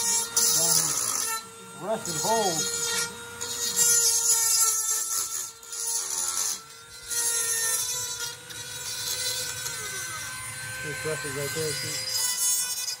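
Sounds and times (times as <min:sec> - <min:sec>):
rotary tool motor whine: 0:00.0 - 0:13.0.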